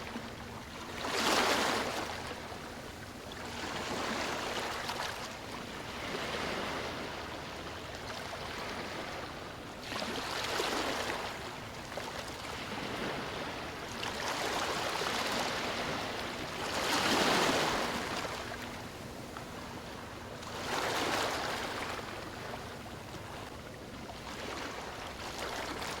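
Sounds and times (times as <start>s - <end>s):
sea waves breaking on a beach: 0.0s - 26.0s.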